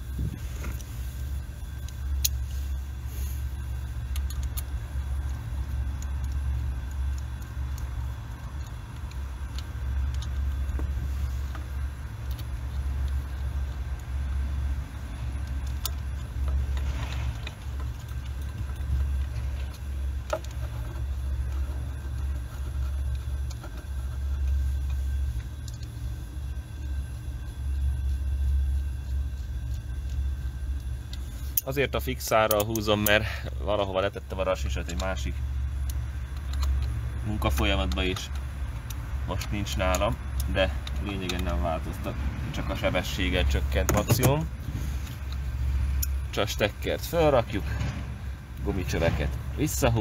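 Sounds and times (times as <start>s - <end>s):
low uneven rumble: 0.0s - 50.0s
spanner rustling on bolts: 0.0s - 50.0s.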